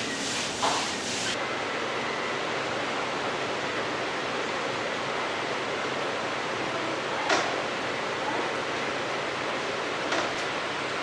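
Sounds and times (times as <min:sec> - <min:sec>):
room ventilation rushing air: 0:00.0 - 0:11.0.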